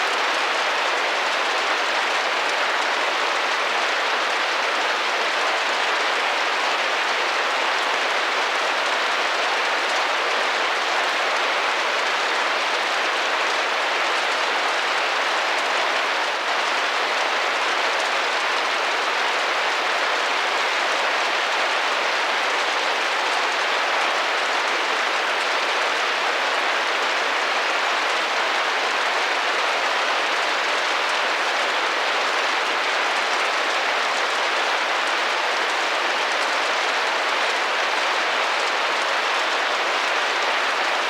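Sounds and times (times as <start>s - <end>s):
rain pattering on a window: 0.0s - 41.0s.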